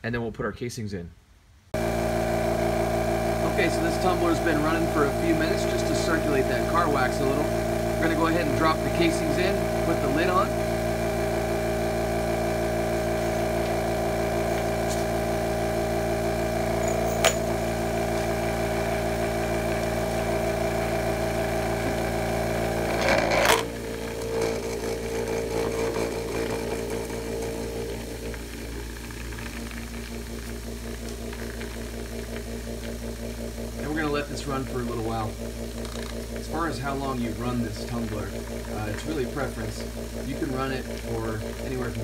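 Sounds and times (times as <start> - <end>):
vibratory tumbler motor hum: 1.8 - 42.0.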